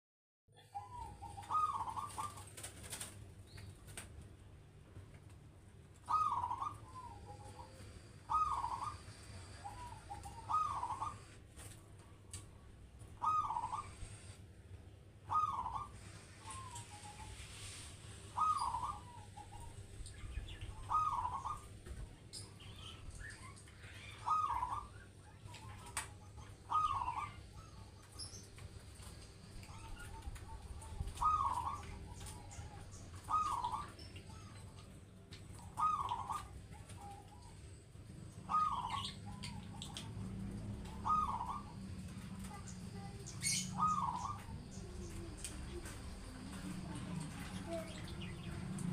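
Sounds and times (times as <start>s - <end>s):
dove cooing: 0.6s - 3.2s, 6.0s - 12.2s, 13.1s - 14.4s, 15.2s - 48.9s.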